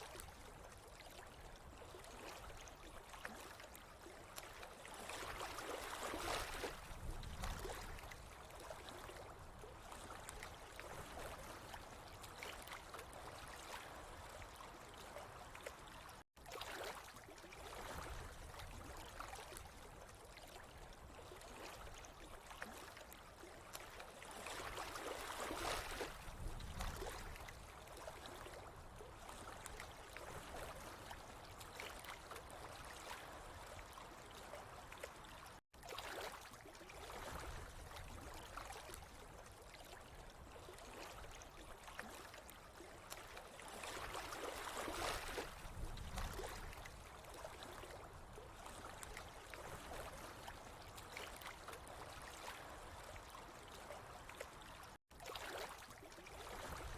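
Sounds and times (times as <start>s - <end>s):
water trickling and gurgling: 0.0s - 56.9s.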